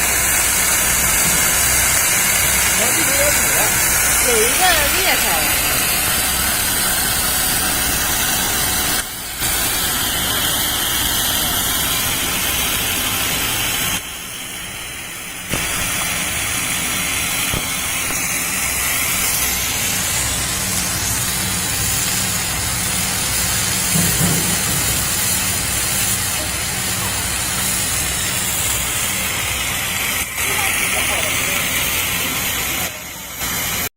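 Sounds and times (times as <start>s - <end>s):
production line machine noise: 0.0s - 33.9s.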